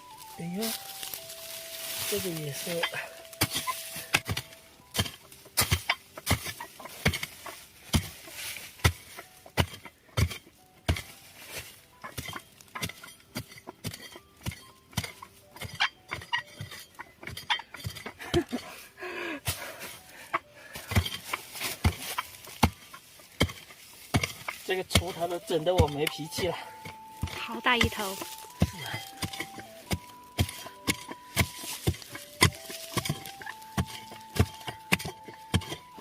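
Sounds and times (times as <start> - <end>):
hoe chopping into ground: 0.0 - 18.8, 20.7 - 36.0.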